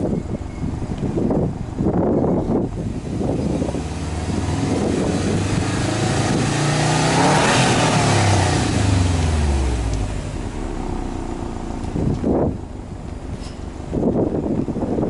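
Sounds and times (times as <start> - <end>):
car engine revving: 1.9 - 15.0.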